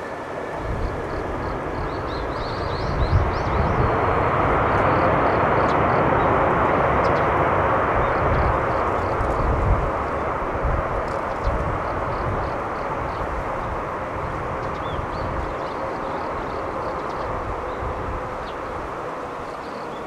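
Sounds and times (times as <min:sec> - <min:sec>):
jet engines in reverse thrust: 0:00.0 - 0:20.0.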